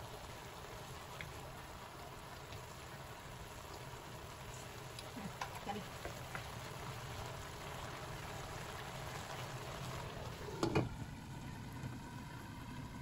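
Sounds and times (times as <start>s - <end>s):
broth bubbling in a wok: 0.0s - 13.0s.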